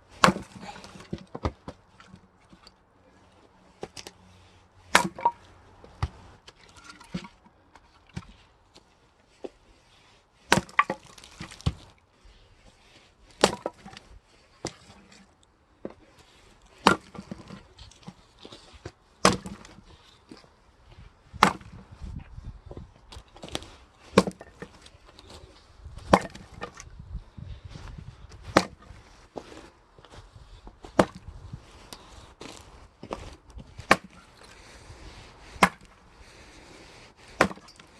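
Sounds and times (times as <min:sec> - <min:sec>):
axe splitting logs: 0:00.0 - 0:02.7, 0:03.8 - 0:04.2, 0:04.9 - 0:09.6, 0:10.4 - 0:12.0, 0:12.6 - 0:21.9, 0:22.6 - 0:26.9, 0:28.3 - 0:29.7, 0:30.6 - 0:37.9.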